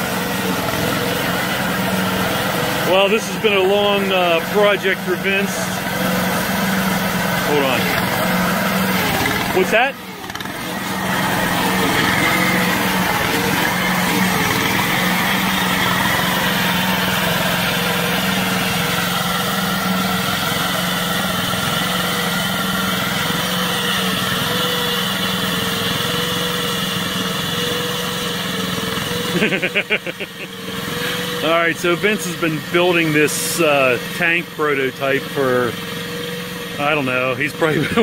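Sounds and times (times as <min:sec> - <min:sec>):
small engine droning: 0:00.0 - 0:38.0.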